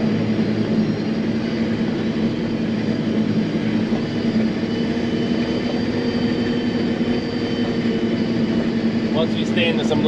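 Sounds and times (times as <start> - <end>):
faint high machine whines: 0.0 - 10.0
forage harvester droning: 0.0 - 10.0.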